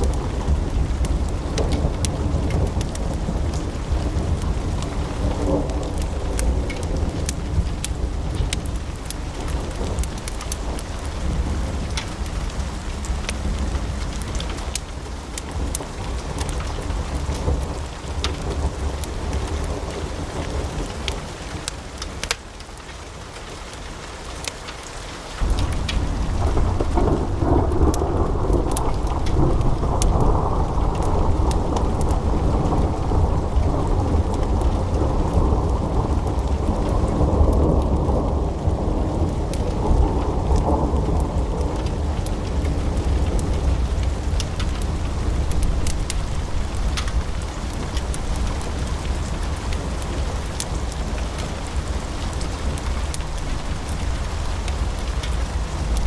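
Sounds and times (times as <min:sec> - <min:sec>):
deep rumble of flames: 0:00.0 - 0:56.0
wood fire crackling: 0:00.0 - 0:56.0.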